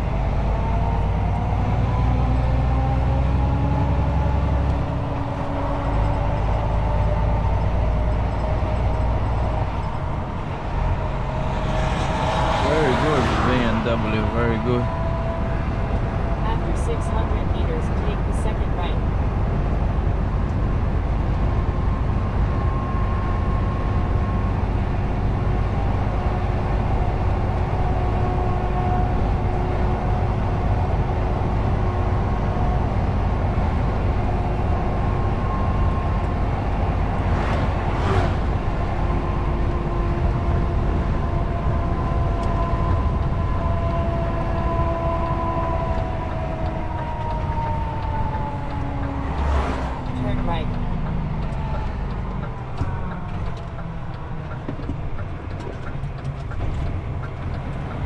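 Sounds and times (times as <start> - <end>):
road and tyre noise: 0.0 - 58.0
truck diesel engine drone: 0.0 - 58.0.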